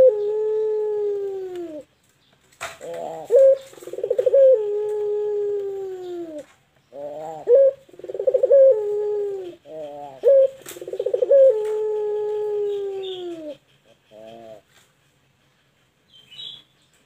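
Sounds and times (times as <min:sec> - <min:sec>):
dove cooing: 0:00.0 - 0:01.9, 0:02.6 - 0:14.8.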